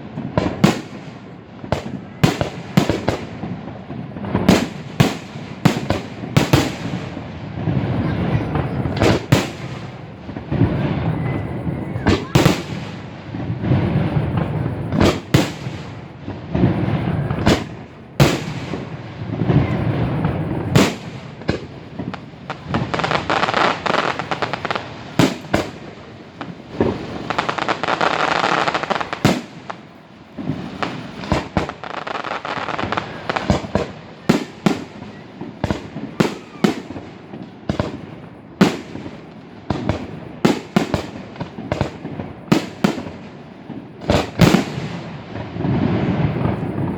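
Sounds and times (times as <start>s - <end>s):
fireworks bangs and bursts: 0.0s - 46.9s
dense hissing noise: 2.5s - 46.9s.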